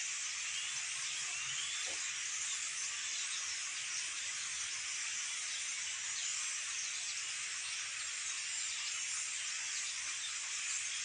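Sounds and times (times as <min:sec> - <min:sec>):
flock of small birds chirping: 0:00.4 - 0:11.0.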